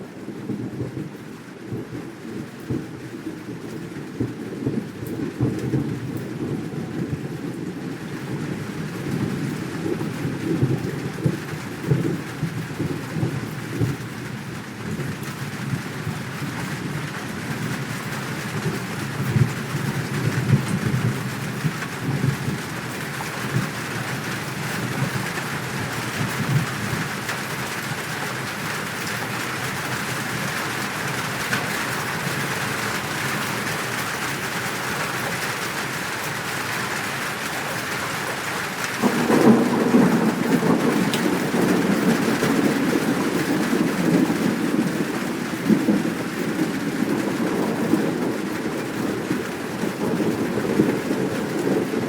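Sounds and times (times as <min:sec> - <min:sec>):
steady rain: 0:00.0 - 0:52.0
rolling thunder: 0:00.2 - 0:52.0.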